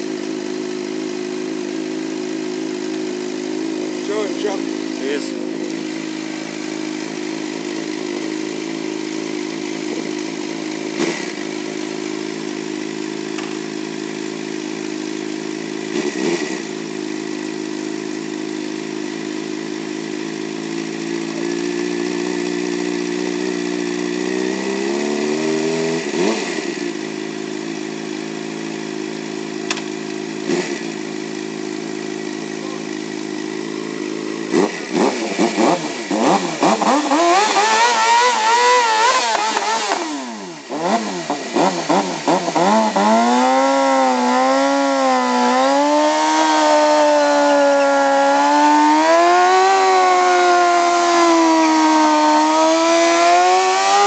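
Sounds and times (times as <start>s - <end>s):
motorcycle engine idling: 0.0s - 52.5s.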